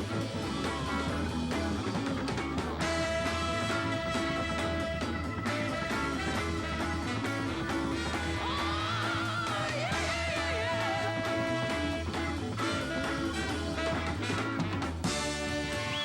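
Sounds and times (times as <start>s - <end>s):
rock soul band music: 0.0s - 16.0s.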